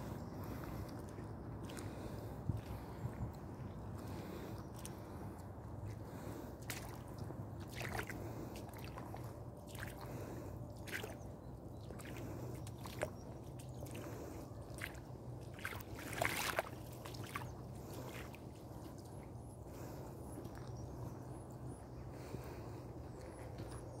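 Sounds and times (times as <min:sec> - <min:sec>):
boots squelching through mud: 0:00.4 - 0:11.2, 0:11.8 - 0:21.1.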